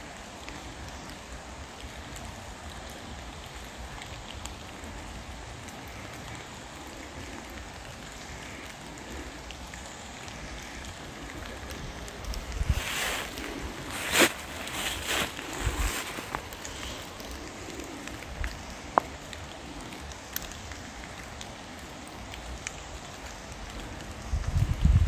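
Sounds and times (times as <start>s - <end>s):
faint ticks: 0.0s - 25.0s
steady outdoor hiss: 0.0s - 25.0s.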